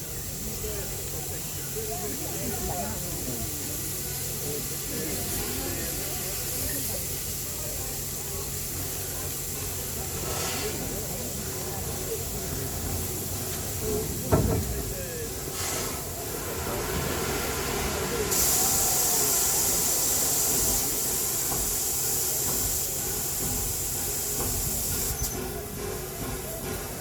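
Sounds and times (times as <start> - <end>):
steam locomotive venting steam: 0.0 - 27.0.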